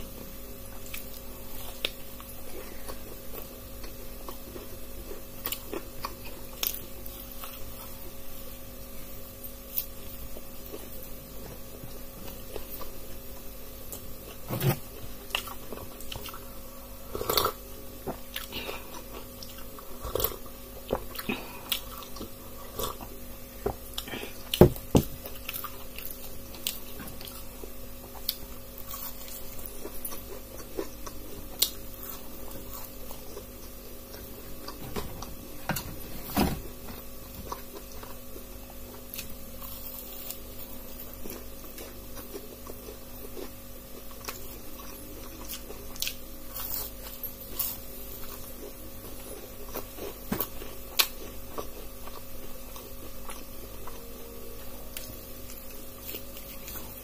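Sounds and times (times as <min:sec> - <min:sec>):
steady background hum: 0:00.0 - 0:57.0
chewing fried food: 0:00.7 - 0:08.6, 0:09.6 - 0:35.3, 0:36.8 - 0:54.0, 0:54.6 - 0:57.0.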